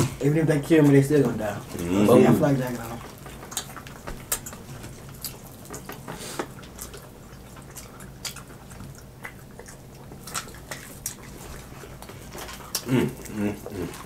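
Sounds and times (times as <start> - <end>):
people chewing with wet smacks: 0.0 - 14.0.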